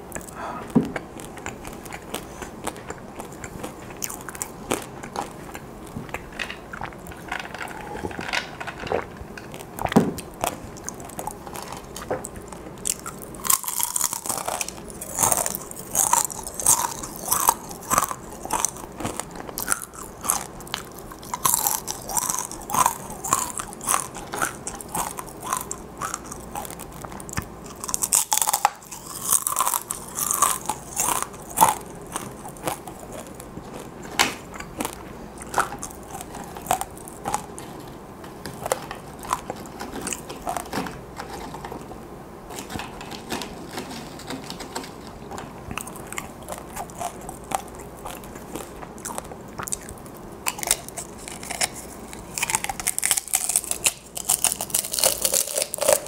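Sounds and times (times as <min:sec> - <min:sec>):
crunchy chips being chewed: 0:00.0 - 0:41.9, 0:42.5 - 0:56.0.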